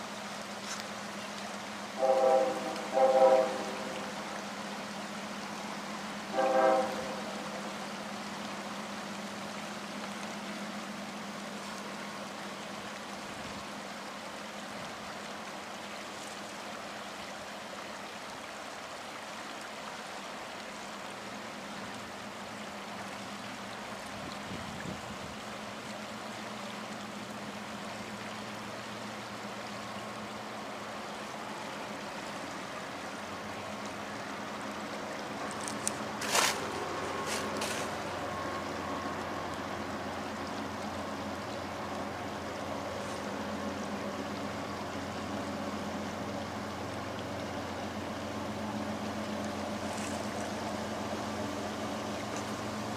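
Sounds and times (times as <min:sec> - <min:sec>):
river water rushing over gravel: 0:00.0 - 0:52.9.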